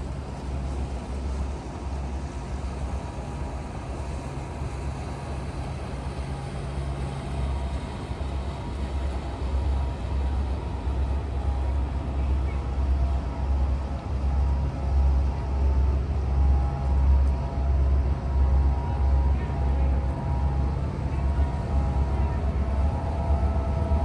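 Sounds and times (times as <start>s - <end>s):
tugboat diesel engine rumble: 0.0s - 24.0s.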